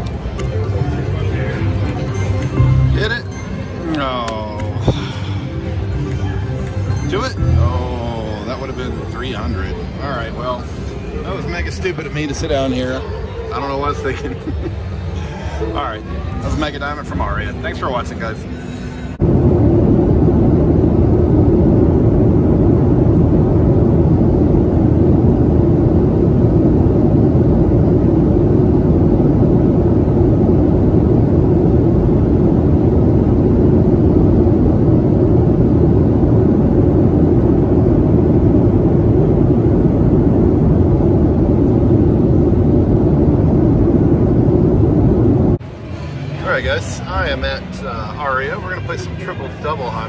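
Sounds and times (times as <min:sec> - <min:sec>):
airliner cabin engine rushing: 0:00.0 - 0:50.0.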